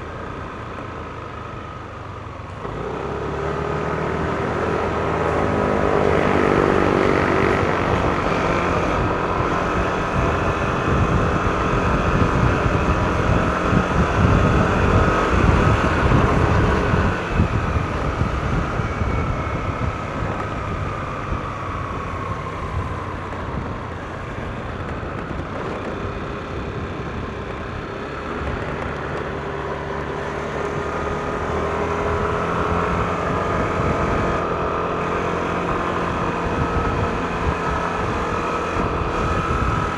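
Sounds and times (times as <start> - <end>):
scooter engine running: 0.0 - 39.9
wind rumbling on microphone: 3.9 - 39.9.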